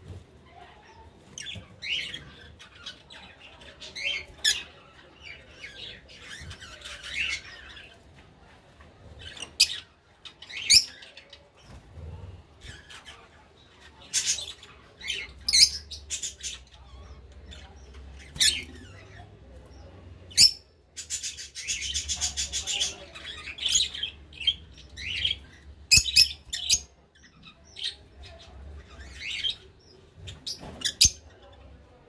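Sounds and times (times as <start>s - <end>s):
lovebirds chirping and squawking: 0.0s - 32.0s.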